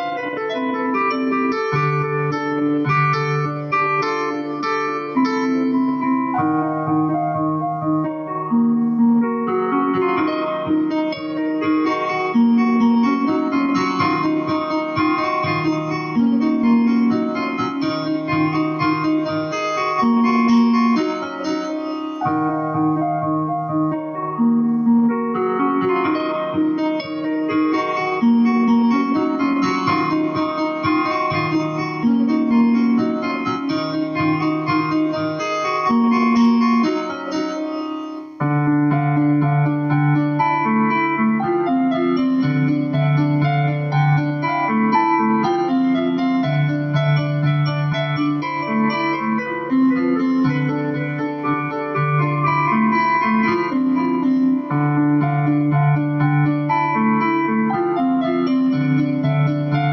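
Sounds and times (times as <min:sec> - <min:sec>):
keyboard playing sustained chords: 0:00.0 - 0:59.9.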